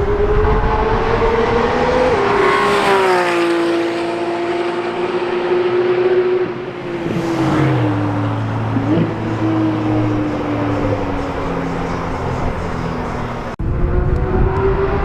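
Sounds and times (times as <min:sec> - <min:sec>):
sports car engine accelerating: 0:00.0 - 0:15.0.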